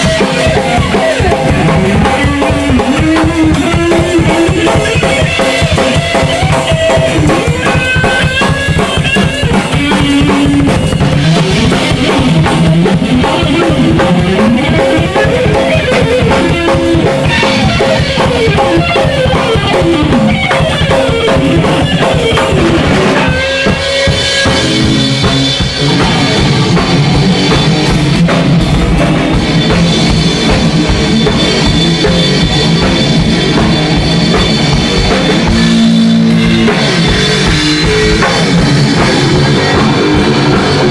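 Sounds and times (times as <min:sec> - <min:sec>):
drum kit beat: 0:00.0 - 0:40.9
electric guitar sliding lines: 0:00.0 - 0:40.9
rock band playing: 0:00.0 - 0:40.9.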